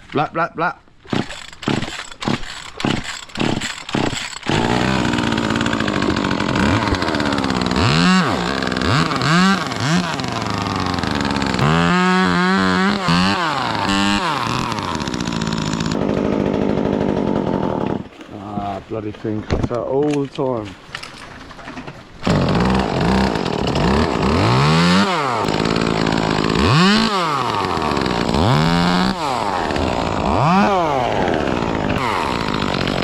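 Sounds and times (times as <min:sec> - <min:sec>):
chainsaw starter cord pulls: 0:01.0 - 0:18.4, 0:20.0 - 0:33.0
chainsaw revving: 0:01.1 - 0:18.2, 0:22.2 - 0:33.0.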